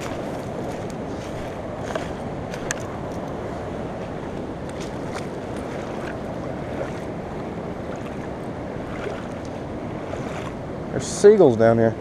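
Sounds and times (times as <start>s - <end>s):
fast-flowing river rushing: 0.0s - 11.3s.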